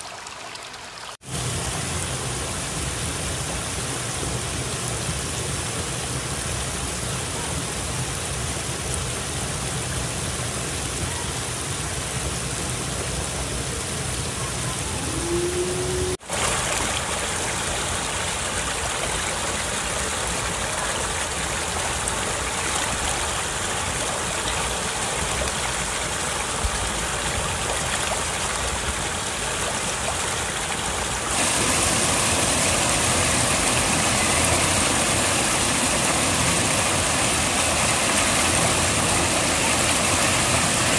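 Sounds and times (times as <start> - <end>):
water rushing over weir and rocks: 0.0 - 40.9.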